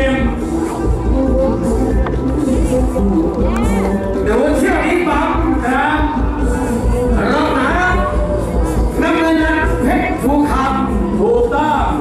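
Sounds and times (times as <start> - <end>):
low bass beat: 0.0 - 12.0.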